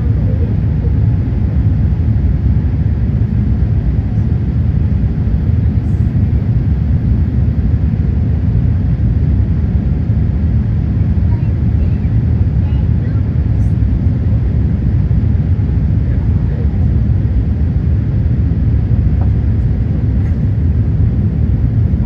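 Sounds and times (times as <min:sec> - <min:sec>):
airflow over fuselage: 0:00.0 - 0:22.0
airplane cabin engine rumble: 0:00.0 - 0:22.0.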